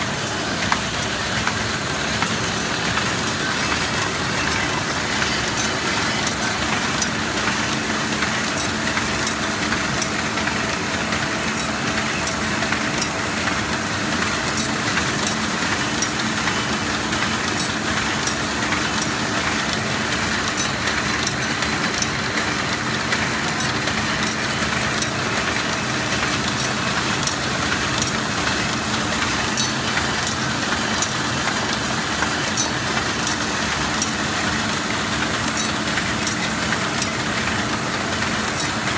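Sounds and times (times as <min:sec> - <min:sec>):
machine hum and clatter: 0:00.0 - 0:38.9
sharp mechanical clicks: 0:00.6 - 0:38.9.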